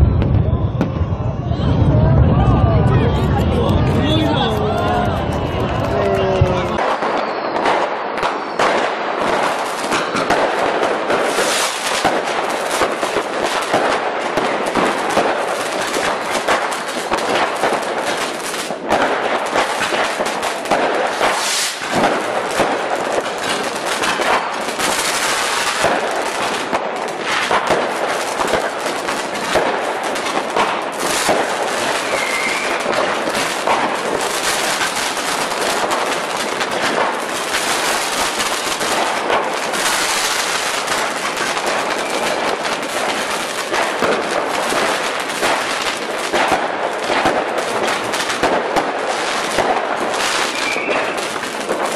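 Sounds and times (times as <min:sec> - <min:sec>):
fireworks cracking and popping: 0:00.0 - 0:51.9.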